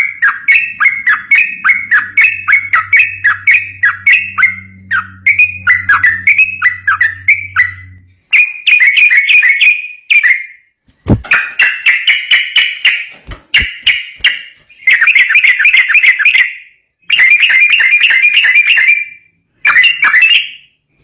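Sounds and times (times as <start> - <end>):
bulbul calling: 0.0 - 10.5, 11.1 - 20.7.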